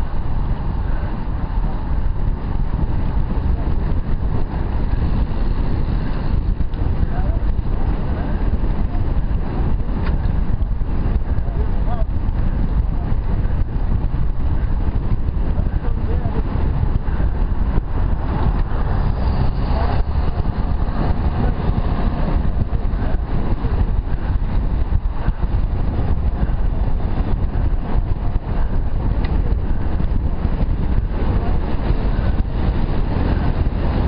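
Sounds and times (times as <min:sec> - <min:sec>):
road noise: 0:00.0 - 0:34.0
wind rumble on microphone: 0:00.0 - 0:34.0.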